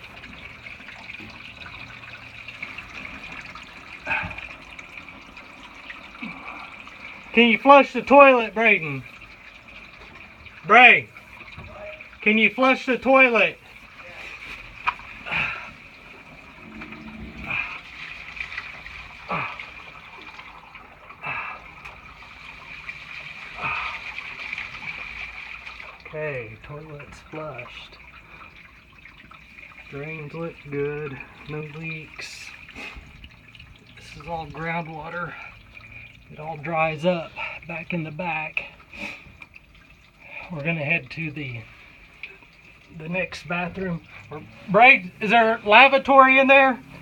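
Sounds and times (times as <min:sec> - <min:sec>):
water draining through pipe: 0:00.0 - 0:47.0.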